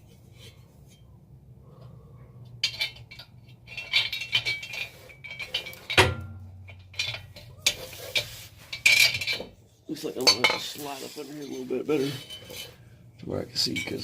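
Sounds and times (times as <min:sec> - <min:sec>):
metal tools clinking and clanking: 0:02.5 - 0:14.0.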